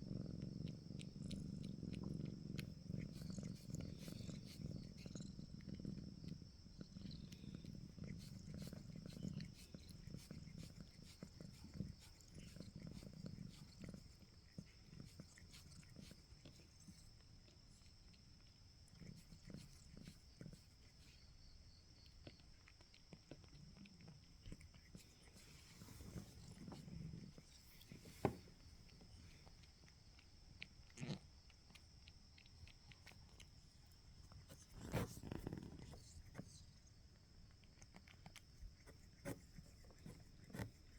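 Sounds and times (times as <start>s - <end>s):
cat purring: 0.0s - 21.4s, 22.0s - 40.9s.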